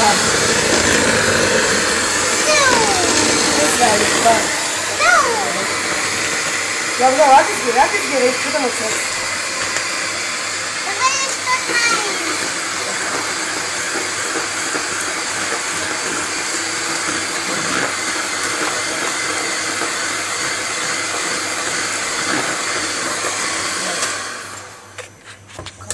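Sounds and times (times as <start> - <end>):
electric hand mixer whirring: 0.0 - 25.0.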